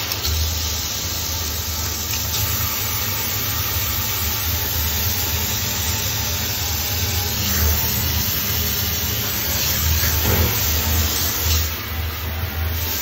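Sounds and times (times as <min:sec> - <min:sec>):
shower spray hissing: 0:00.0 - 0:13.0.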